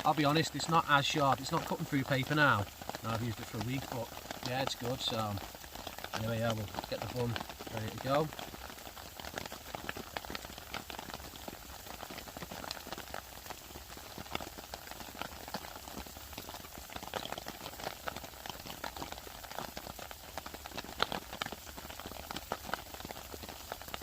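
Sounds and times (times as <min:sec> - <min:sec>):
burgers sizzling in a pan: 0:00.0 - 0:24.0
rain pattering: 0:00.0 - 0:24.0.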